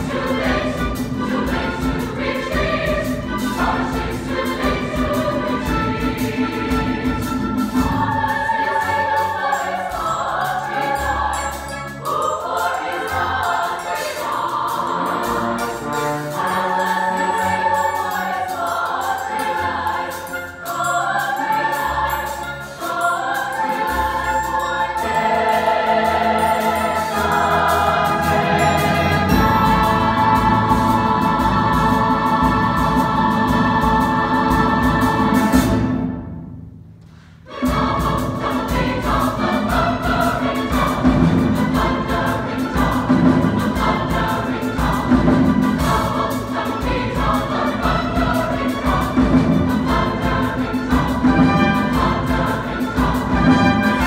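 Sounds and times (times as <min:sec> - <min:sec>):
mixed choir singing: 0:00.0 - 0:36.4, 0:37.4 - 0:54.0
chamber orchestra playing: 0:00.0 - 0:36.6, 0:37.5 - 0:54.0.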